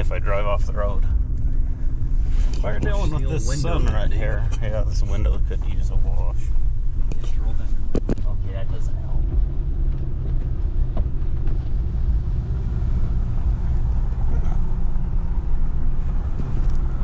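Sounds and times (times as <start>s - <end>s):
engine and tyres rumbling: 0.0s - 17.0s.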